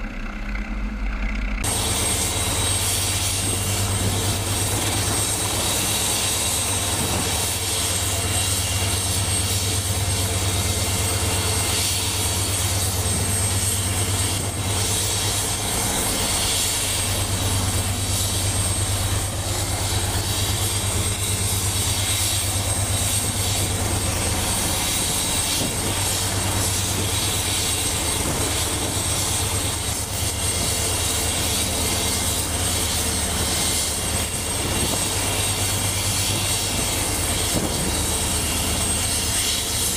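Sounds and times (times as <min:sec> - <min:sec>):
helicopter rotor and engine hum: 0:00.0 - 0:39.9
high turbine whine: 0:00.0 - 0:39.9.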